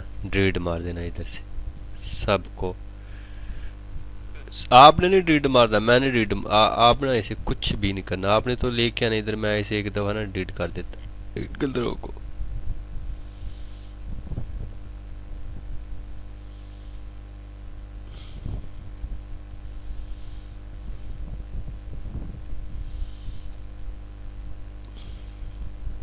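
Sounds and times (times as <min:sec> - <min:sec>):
electrical hum: 0:00.0 - 0:26.0
high-pitched whine: 0:00.0 - 0:26.0.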